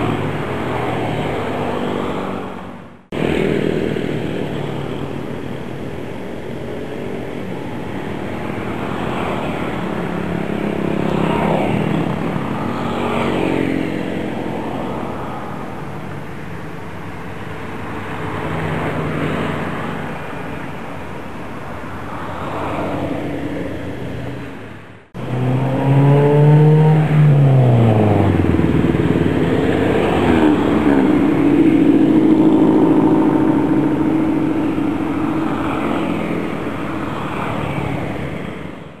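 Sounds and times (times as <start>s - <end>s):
engine drone: 0.0s - 39.0s
motor vehicle traffic: 0.0s - 39.0s.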